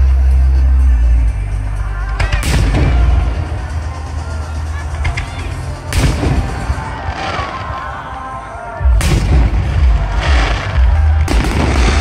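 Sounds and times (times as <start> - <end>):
fireworks exploding: 2.2 - 12.0.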